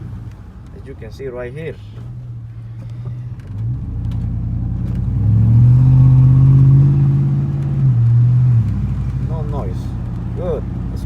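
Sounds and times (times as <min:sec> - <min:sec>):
truck engine accelerating: 0:02.0 - 0:11.0.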